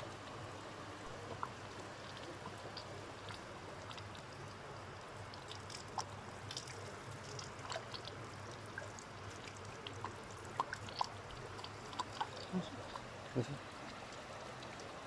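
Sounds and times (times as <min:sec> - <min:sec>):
small splashes and drips: 0:00.0 - 0:15.0
stream water rushing: 0:00.0 - 0:15.0.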